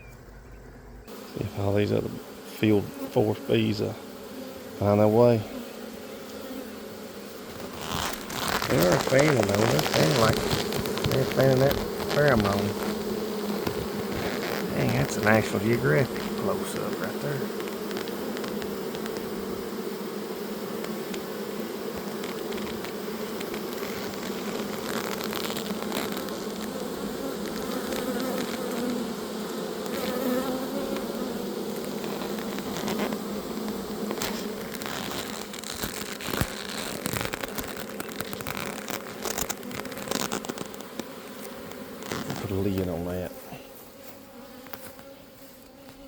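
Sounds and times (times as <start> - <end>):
bees buzzing: 0.0 - 46.0.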